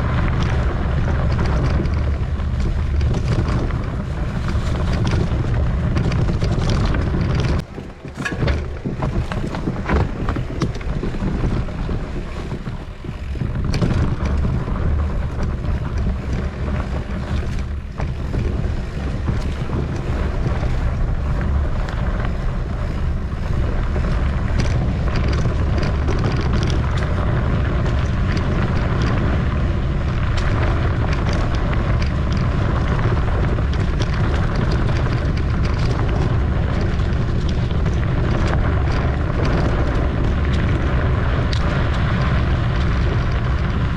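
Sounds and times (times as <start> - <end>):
bike clicks and rattles: 0.0 - 43.9
wind buffeting microphone: 0.0 - 43.9.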